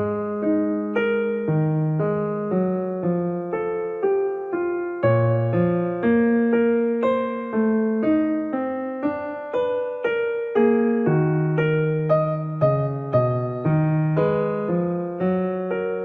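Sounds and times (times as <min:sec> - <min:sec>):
keyboard melody: 0:00.0 - 0:16.0.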